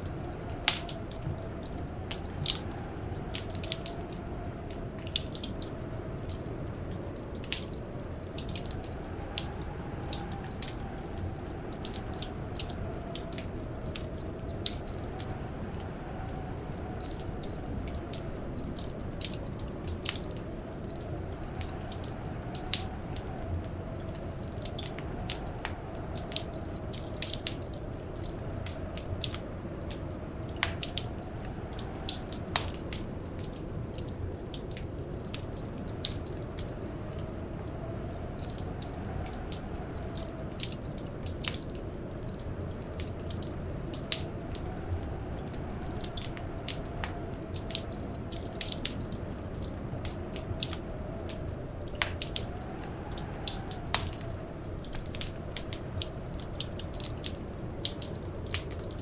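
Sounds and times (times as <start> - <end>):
howling blizzard wind: 0.0 - 59.0
wood fire crackling: 0.0 - 59.0.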